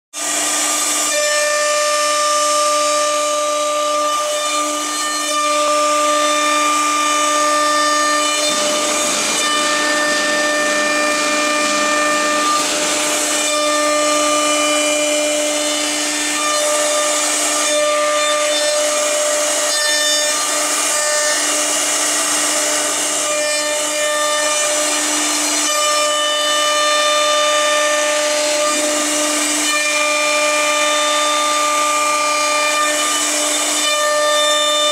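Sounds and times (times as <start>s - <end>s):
router spindle whine: 0.2s - 34.9s.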